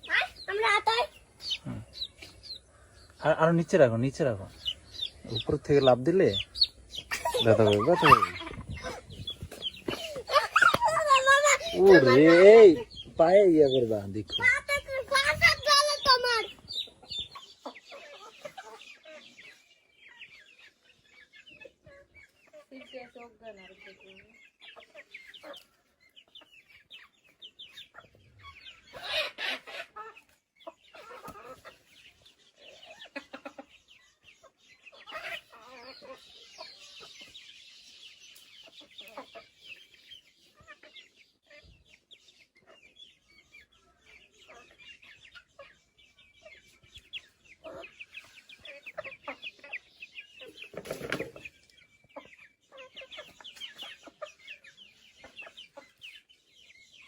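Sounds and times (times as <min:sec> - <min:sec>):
chicks peeping and clucking: 0:00.0 - 0:57.0.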